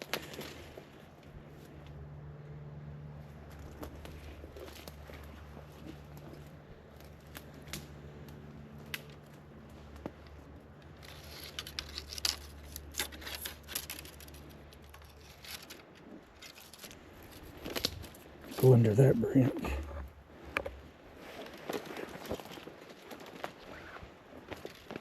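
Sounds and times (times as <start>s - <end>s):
faint low hum: 0.0s - 21.2s.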